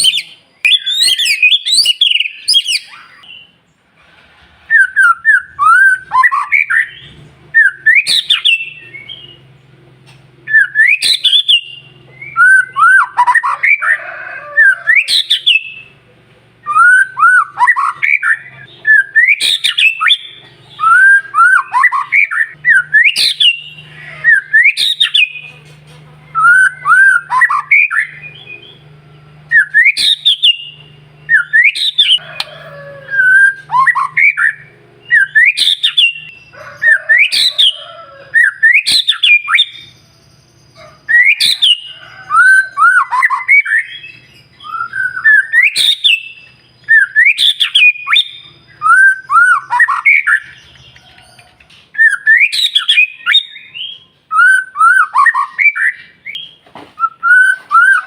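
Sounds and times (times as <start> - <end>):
bird singing whistled phrases: 0.0 - 3.5, 4.7 - 9.4, 10.5 - 13.9, 14.6 - 15.9, 16.6 - 25.5, 26.3 - 28.8, 29.5 - 37.8, 38.4 - 50.9, 52.0 - 58.0.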